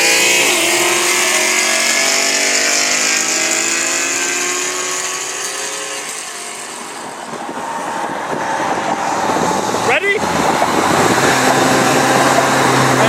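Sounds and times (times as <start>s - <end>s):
race car engine pulling away: 0.0s - 13.0s.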